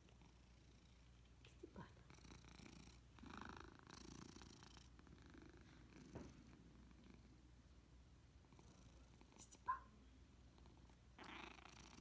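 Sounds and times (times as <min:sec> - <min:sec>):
cat purring: 0:00.0 - 0:07.8, 0:08.4 - 0:09.7, 0:10.3 - 0:12.0.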